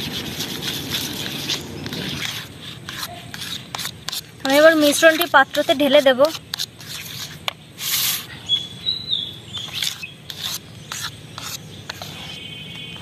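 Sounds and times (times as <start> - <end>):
spoon scraping batter from bowl: 0.6 - 8.3, 9.6 - 12.9.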